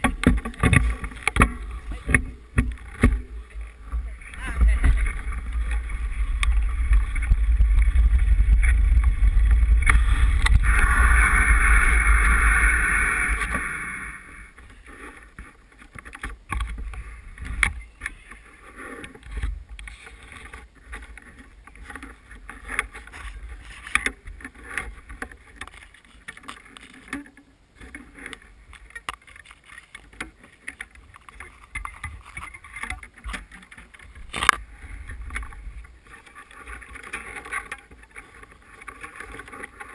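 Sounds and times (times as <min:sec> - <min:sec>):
bike riding rumble: 0:00.0 - 0:39.9
wind: 0:00.0 - 0:39.9.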